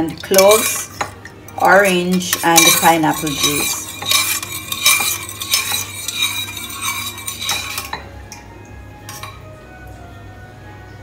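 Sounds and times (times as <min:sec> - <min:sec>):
spoon scraping and clinking in pan: 0:00.2 - 0:09.5.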